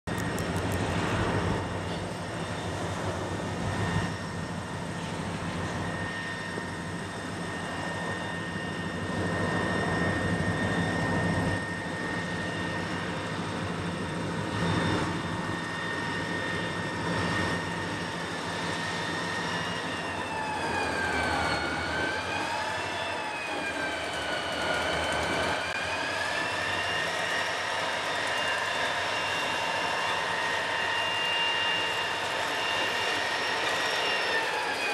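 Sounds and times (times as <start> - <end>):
locomotive engine rumble: 0.1 - 34.6.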